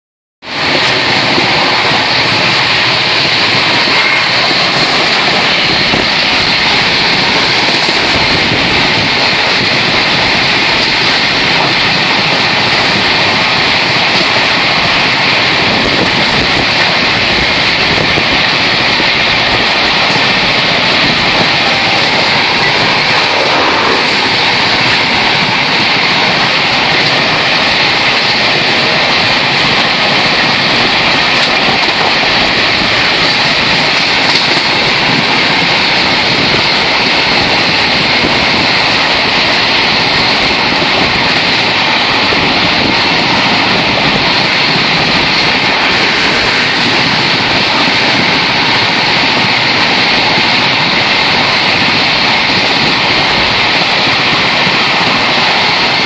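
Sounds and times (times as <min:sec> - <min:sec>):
train rushing at speed: 0:00.4 - 0:56.0.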